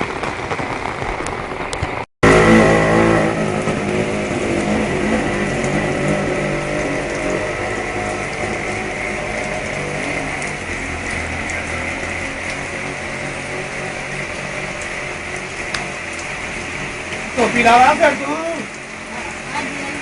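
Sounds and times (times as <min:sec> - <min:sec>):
rain hiss: 0:00.0 - 0:20.0
engine running: 0:01.9 - 0:20.0.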